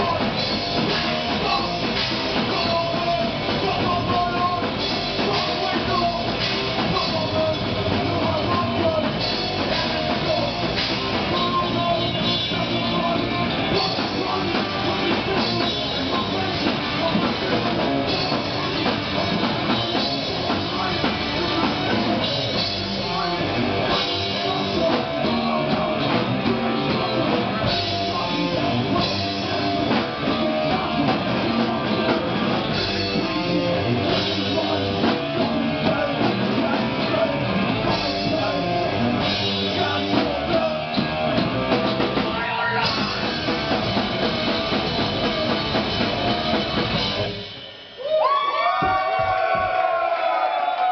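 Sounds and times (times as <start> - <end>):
electric guitars: 0.0 - 47.8
drum kit: 0.0 - 50.1.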